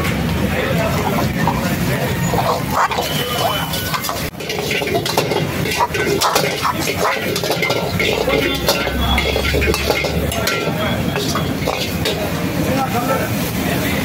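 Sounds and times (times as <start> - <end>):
ladle scraping and clanking on wok: 0.8 - 13.6.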